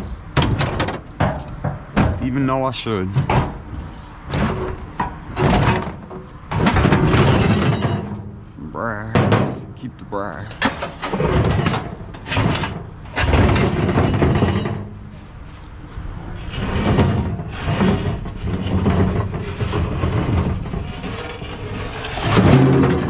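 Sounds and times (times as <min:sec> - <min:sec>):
scrap metal scraping and clattering: 0:00.0 - 0:09.7, 0:10.4 - 0:23.0
scrap metal clanking: 0:00.0 - 0:09.8, 0:10.4 - 0:15.7, 0:16.3 - 0:23.0.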